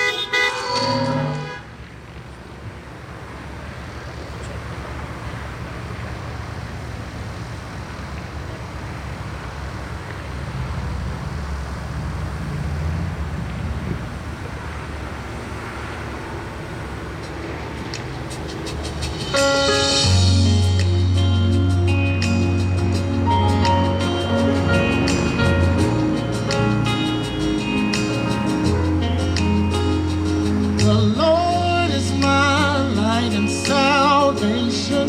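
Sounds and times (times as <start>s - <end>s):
car engines idling: 0.0s - 35.0s.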